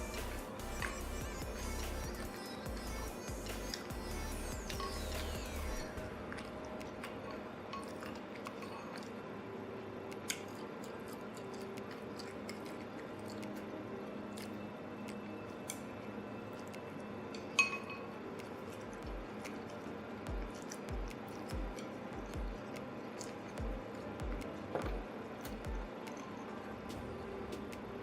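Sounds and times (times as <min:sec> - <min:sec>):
person chewing noodles: 0:00.0 - 0:28.0.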